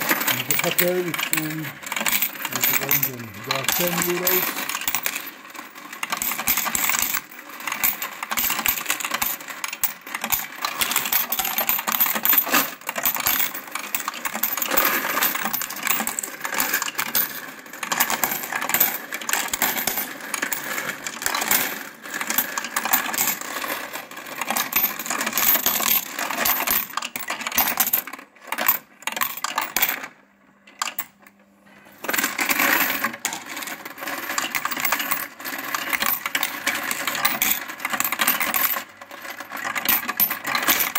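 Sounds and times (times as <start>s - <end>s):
coins clattering through sorter: 0.0s - 31.2s, 32.0s - 40.9s
faint steady machine hum: 0.0s - 40.9s.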